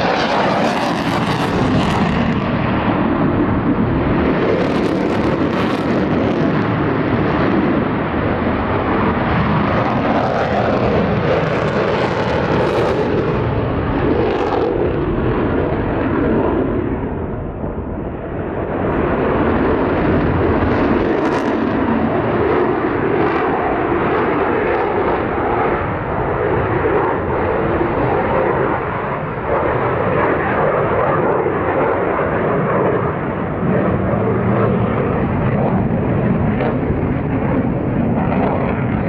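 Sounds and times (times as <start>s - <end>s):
jet engines roaring: 0.0s - 39.0s.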